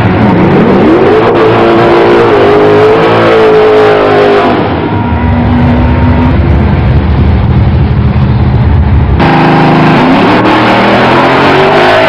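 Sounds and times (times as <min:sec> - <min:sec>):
close engine steady note: 0:00.0 - 0:12.0
drag racing car engine rumble: 0:00.0 - 0:12.0.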